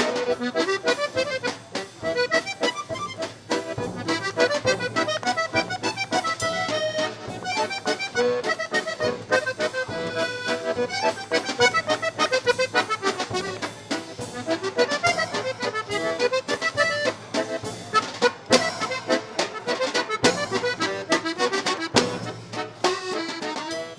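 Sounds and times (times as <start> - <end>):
lively accordion tune with beat: 0.0 - 23.9.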